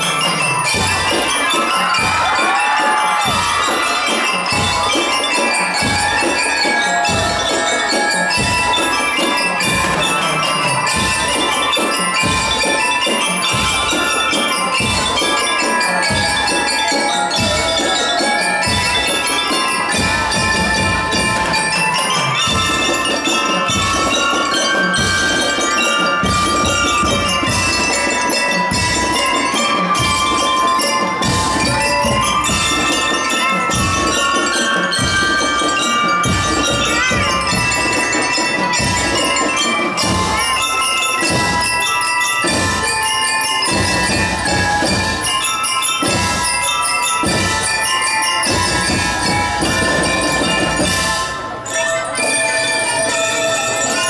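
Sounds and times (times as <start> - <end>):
steady drum beat: 0.0 - 51.5
mallet bells melody: 0.0 - 54.0
marching band playing: 0.0 - 54.0.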